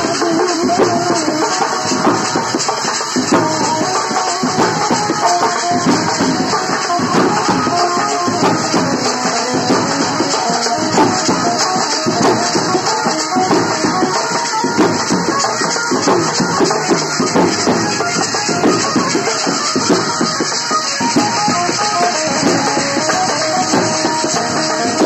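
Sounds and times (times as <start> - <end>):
music with drums and hand percussion: 0.0 - 25.0.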